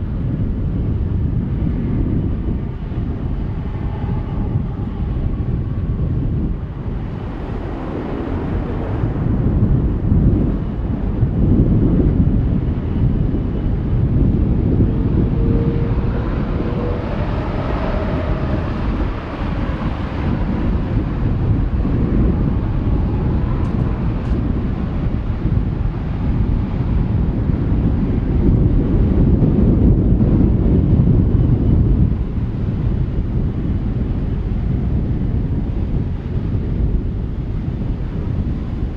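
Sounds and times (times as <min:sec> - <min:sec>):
jet engines rumbling: 0:00.0 - 0:38.9
wind buffeting microphone: 0:00.0 - 0:38.9.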